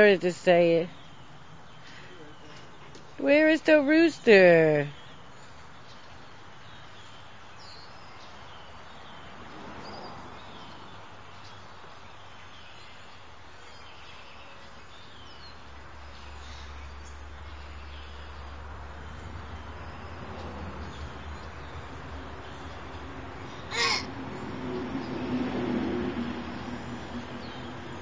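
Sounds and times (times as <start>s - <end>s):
small birds chirping: 0.0s - 25.6s, 26.2s - 28.0s.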